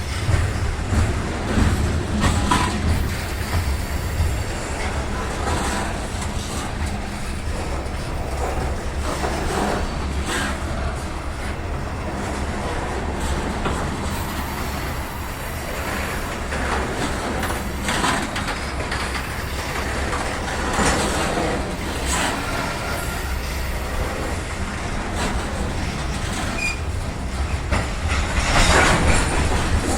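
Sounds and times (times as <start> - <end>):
wheel clacks and knocks: 0.0 - 14.4, 15.0 - 29.9
freight train rolling past: 0.0 - 29.9.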